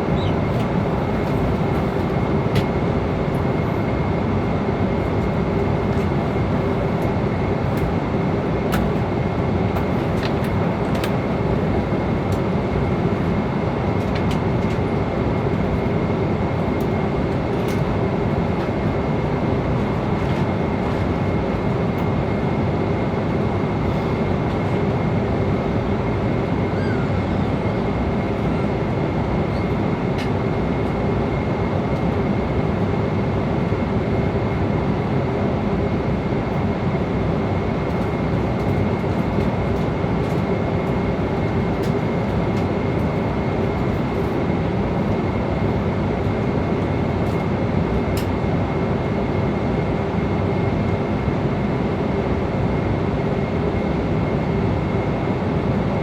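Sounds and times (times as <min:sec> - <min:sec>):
airflow rush and engine hum: 0:00.0 - 0:56.0.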